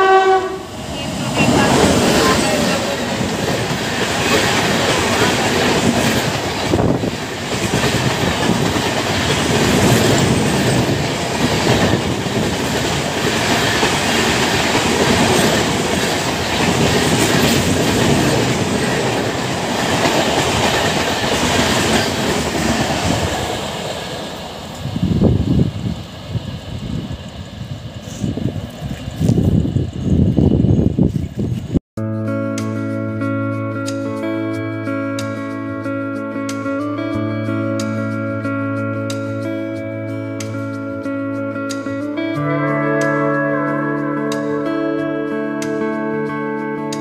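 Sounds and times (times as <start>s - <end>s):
passenger train passing: 0.0s - 31.8s, 33.8s - 47.0s.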